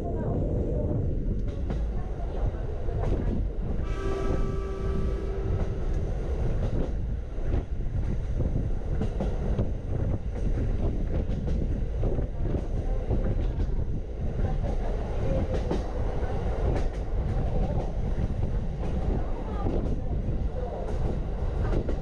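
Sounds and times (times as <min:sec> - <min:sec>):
train wheels rumbling on rail: 0:00.0 - 0:22.0
track clicks and clacks: 0:01.3 - 0:03.5, 0:05.5 - 0:20.2, 0:20.9 - 0:22.0.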